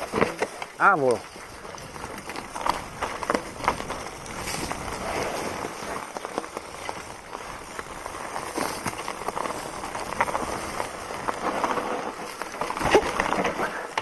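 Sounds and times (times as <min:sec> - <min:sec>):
bike knocks and clicks: 0:00.0 - 0:14.0
bike tyres crunching over leaves: 0:00.0 - 0:14.0.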